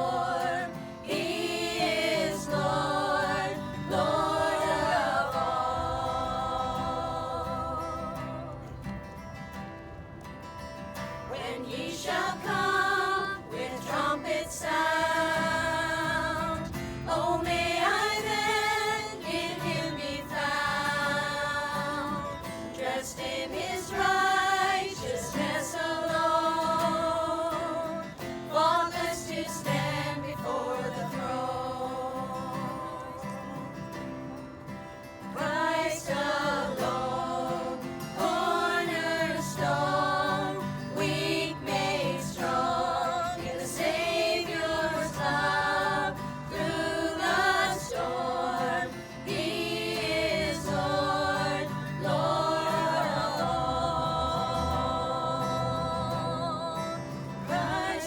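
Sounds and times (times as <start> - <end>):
voices singing a hymn: 0.0 - 10.1, 10.8 - 58.0.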